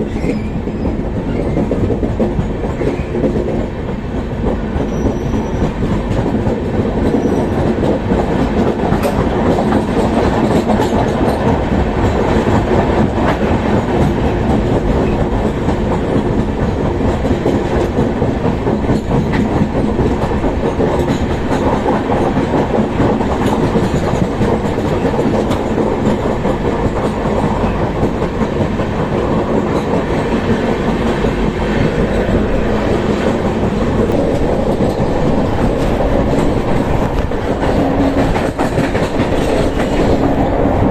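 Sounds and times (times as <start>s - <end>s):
train coaches rumbling: 0.0s - 40.9s
wheels clacking over rail joints: 0.1s - 40.9s.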